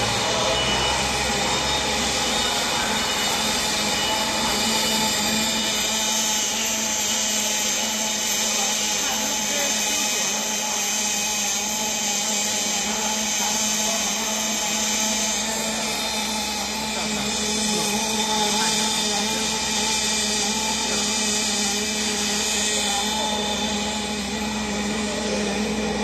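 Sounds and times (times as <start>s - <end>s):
welding arc humming and hissing: 0.0s - 26.0s.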